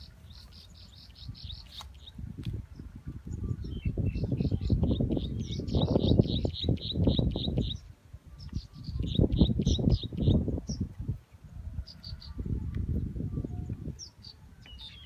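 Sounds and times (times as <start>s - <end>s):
bird chirping: 0.0s - 10.8s, 13.4s - 15.0s.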